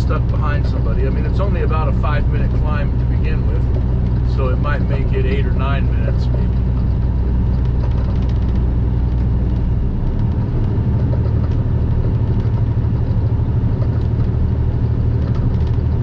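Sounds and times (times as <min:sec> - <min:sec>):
road noise: 0:00.0 - 0:16.0
truck diesel engine droning: 0:00.0 - 0:16.0.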